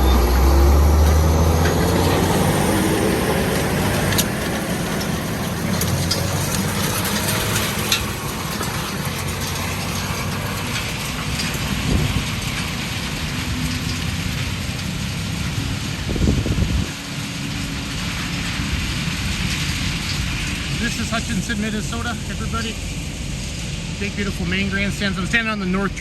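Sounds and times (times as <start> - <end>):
mechanical rattling of tracks: 0.0 - 26.0
tractor diesel engine running: 0.0 - 26.0.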